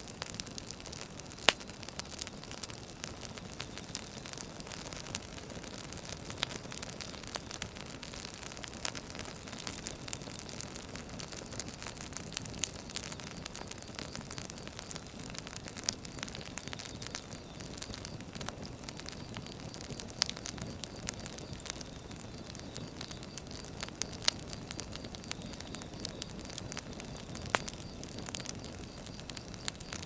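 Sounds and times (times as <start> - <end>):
firewood crackling and hissing: 0.0 - 30.0.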